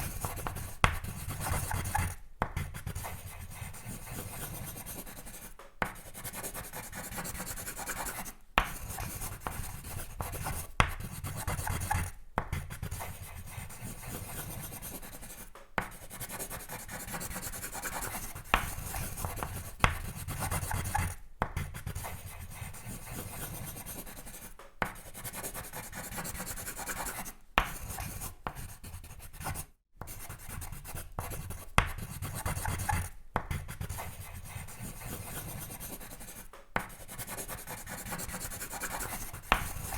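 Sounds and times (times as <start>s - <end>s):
pencil sketching on paper: 0.0s - 39.9s.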